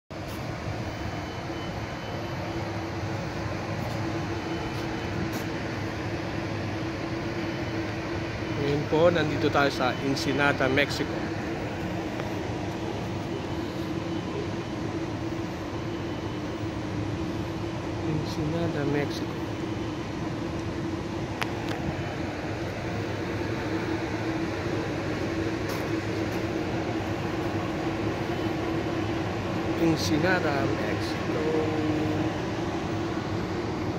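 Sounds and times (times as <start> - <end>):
ship machinery drone: 0.1 - 33.9
airy ventilation hiss: 2.3 - 33.9.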